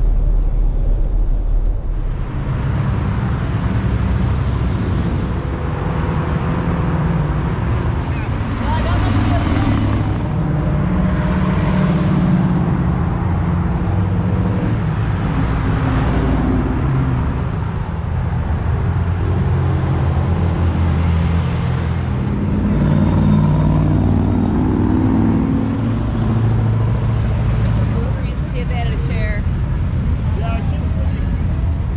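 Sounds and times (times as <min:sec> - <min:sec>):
vehicle engine revving: 0:00.0 - 0:31.9.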